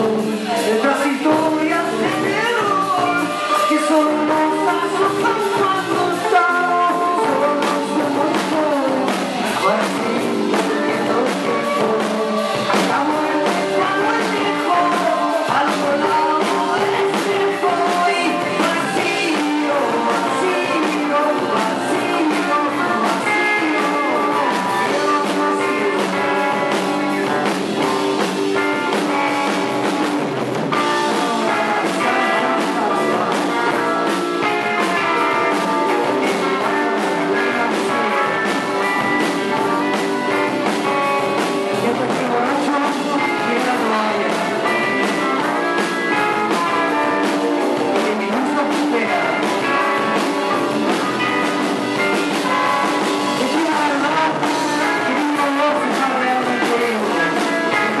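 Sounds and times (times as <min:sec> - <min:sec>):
man singing into a microphone: 0:00.0 - 0:29.9, 0:30.7 - 0:58.0
drums: 0:00.0 - 0:58.0
guitar: 0:00.0 - 0:58.0.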